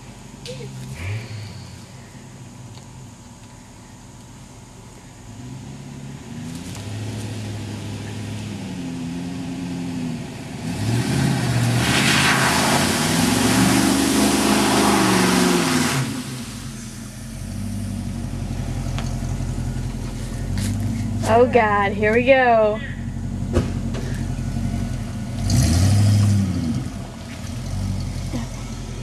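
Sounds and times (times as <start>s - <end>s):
off-road engine revving: 0.0s - 2.8s, 4.9s - 29.0s.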